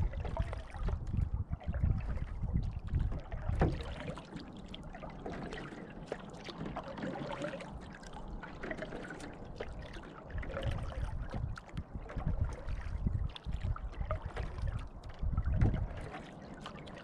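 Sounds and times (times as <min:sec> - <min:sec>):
water trickling and dripping: 0:00.0 - 0:17.0
wind rumble on microphone: 0:00.0 - 0:17.0.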